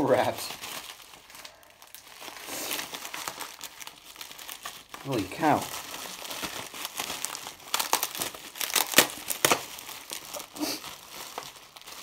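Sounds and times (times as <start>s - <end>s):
bubble wrap crackling: 0.0s - 12.0s.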